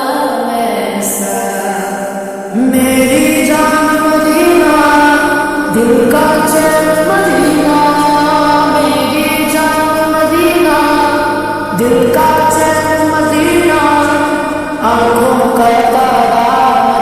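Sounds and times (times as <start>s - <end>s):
devotional song singing: 0.0s - 17.0s.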